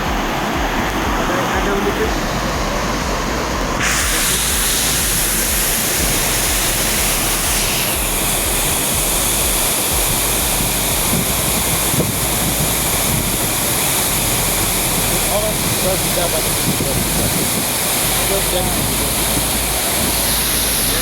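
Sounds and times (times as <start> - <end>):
waterfall pouring: 0.0 - 21.0.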